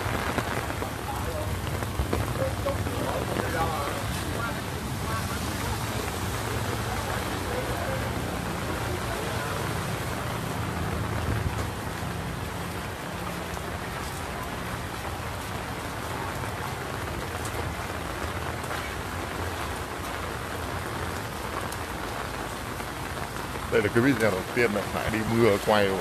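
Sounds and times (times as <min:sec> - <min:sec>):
rain on pavement: 0:00.0 - 0:26.0.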